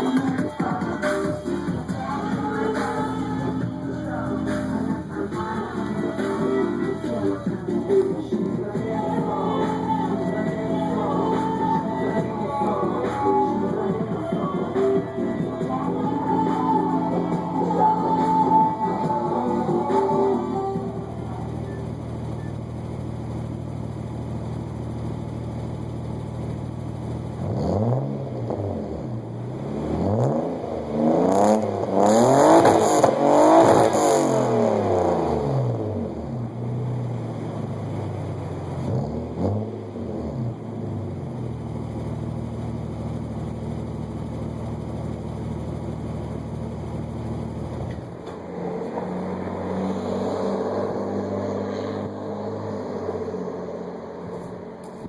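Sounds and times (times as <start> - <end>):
car engine idling: 0.0 - 55.0
engine throttle blips: 0.0 - 55.0.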